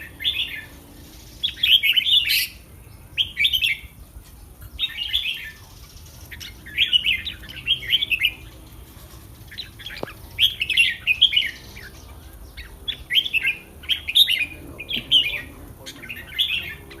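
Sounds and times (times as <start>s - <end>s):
bulbul singing warbling phrases: 0.0s - 4.0s, 4.6s - 17.0s.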